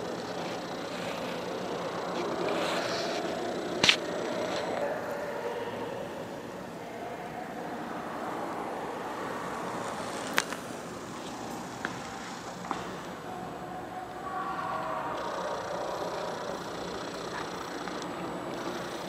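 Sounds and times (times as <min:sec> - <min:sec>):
interference hum: 0:00.0 - 0:19.0.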